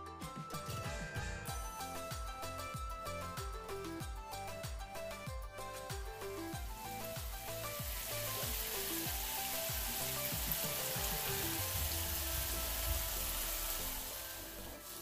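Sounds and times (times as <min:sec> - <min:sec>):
music with plucked bass: 0:00.0 - 0:14.8.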